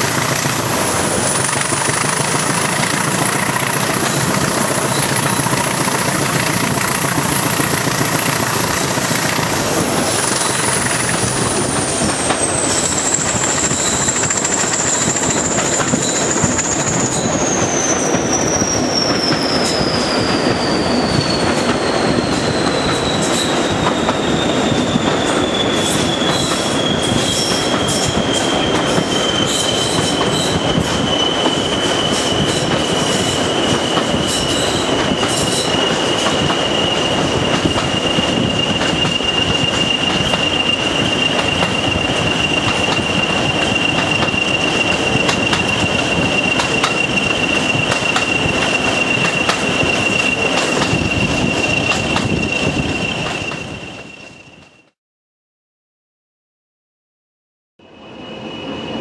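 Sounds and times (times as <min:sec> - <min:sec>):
rail joint clicks: 0:00.0 - 0:19.9, 0:25.0 - 0:52.5
train rumble: 0:00.0 - 0:54.7.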